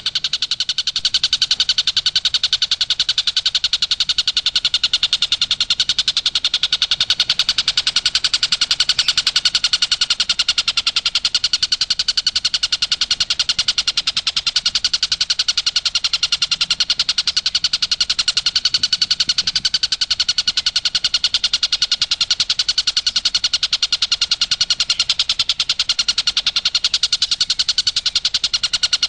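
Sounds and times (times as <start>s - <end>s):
kingfisher rapid chattering call: 0.0s - 29.0s.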